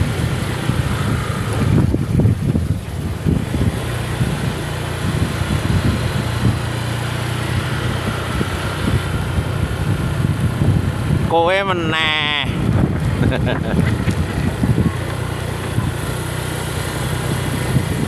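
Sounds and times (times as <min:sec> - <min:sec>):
road and air noise: 0:00.0 - 0:18.0
vehicle engine running at low revs: 0:00.0 - 0:18.0.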